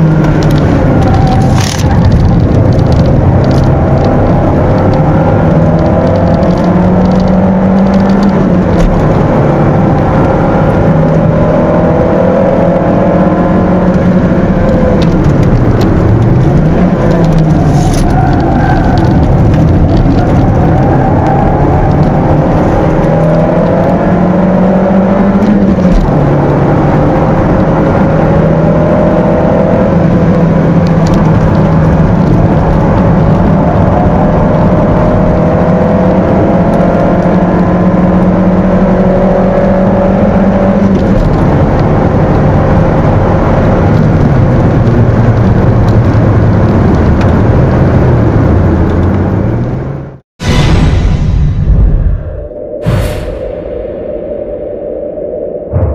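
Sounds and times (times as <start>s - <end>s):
car engine at high revs: 0.0s - 50.2s.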